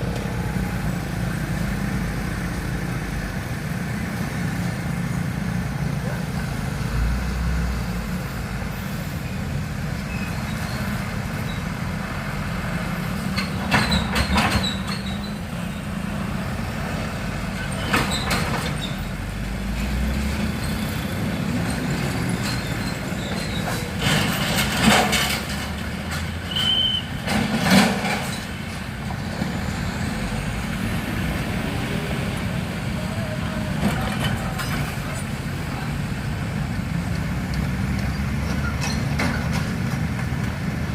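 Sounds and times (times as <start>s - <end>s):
diesel engines rumbling: 0.0s - 40.9s.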